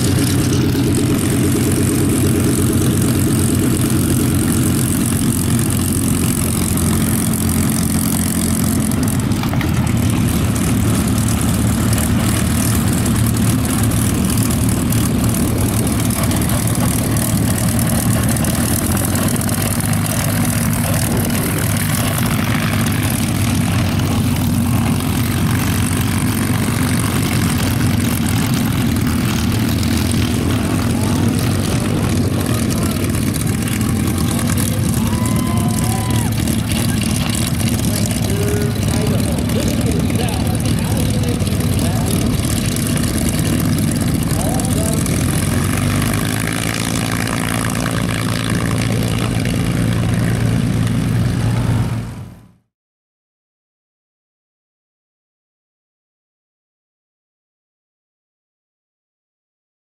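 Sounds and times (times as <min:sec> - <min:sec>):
propeller aircraft engines droning: 0:00.0 - 0:52.5.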